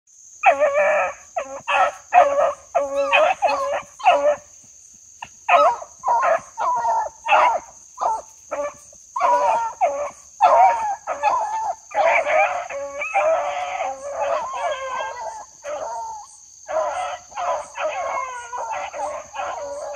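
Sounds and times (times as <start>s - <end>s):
dogs baying: 0.4s - 4.5s, 5.2s - 19.9s.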